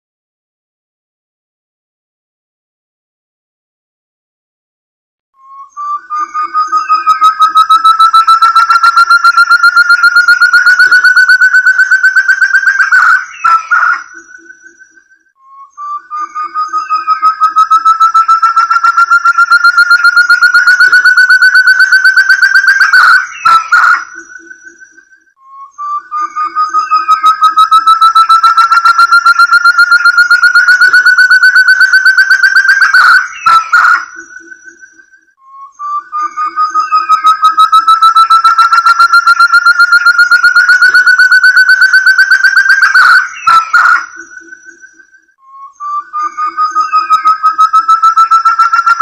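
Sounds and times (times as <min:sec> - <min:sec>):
partridge whistled call: 0:05.4 - 0:49.0.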